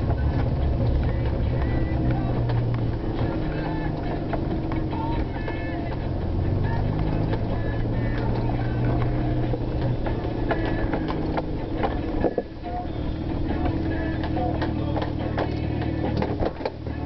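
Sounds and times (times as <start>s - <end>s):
rattles and knocks on rough track: 0.0s - 17.0s
vehicle engine running under load: 0.0s - 17.0s.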